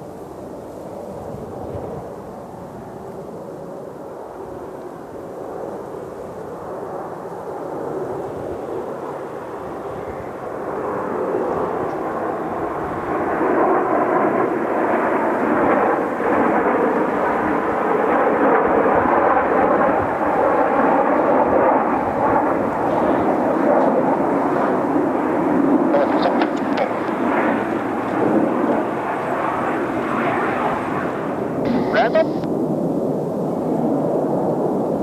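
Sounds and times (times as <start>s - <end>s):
jet aircraft flying over: 0.0s - 35.0s.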